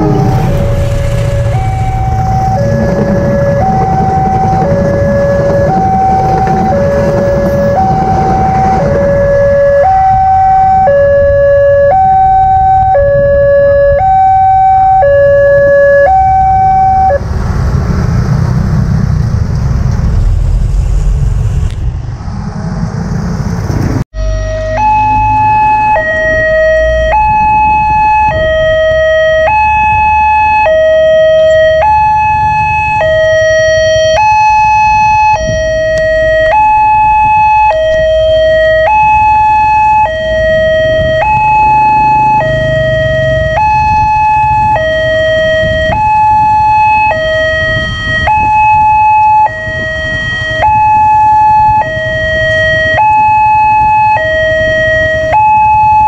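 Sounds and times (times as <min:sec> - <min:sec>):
two-tone level crossing alarm: 0:00.0 - 0:17.2, 0:24.2 - 0:56.0.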